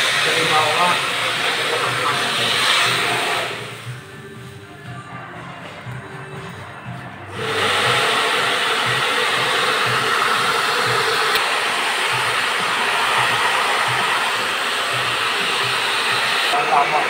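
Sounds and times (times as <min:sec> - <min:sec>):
hair dryer blowing: 0:00.0 - 0:04.7, 0:07.3 - 0:17.0.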